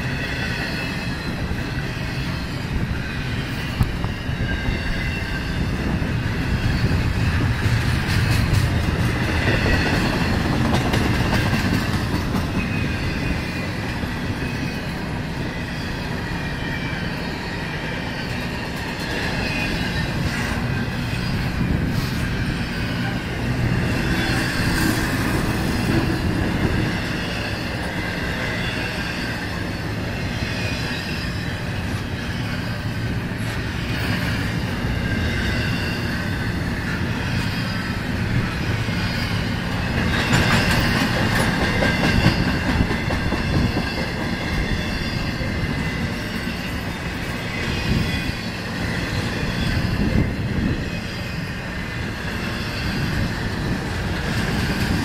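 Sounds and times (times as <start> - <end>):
freight train wheels rumbling: 0.0 - 55.0
high wheel squeal: 0.0 - 55.0.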